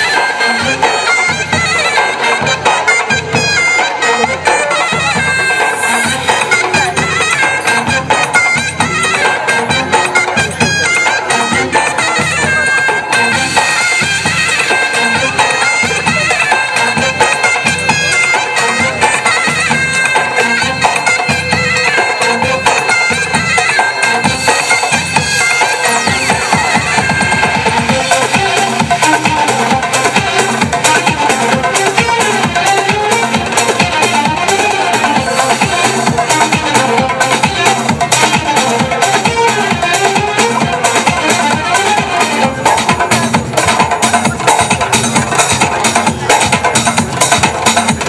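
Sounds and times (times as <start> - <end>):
reedy wind instrument melody: 0.0 - 48.0
steady drum beat: 0.0 - 48.0.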